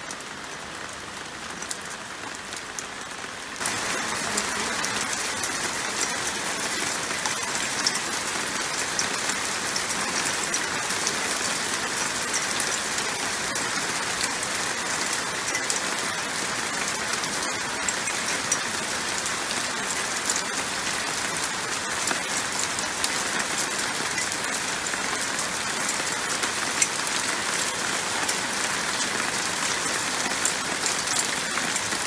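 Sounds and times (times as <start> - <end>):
heavy rain on balcony floor: 0.0 - 32.0.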